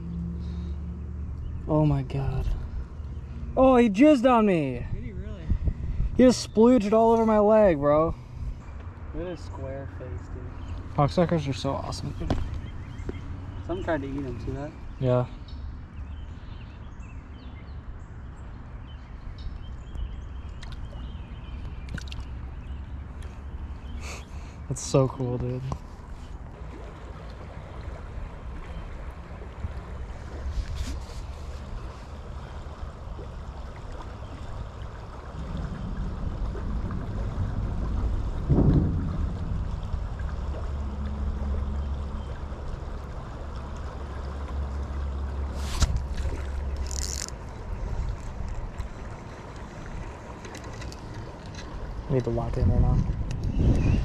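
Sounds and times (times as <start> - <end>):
steady low river rumble: 0.0 - 54.0.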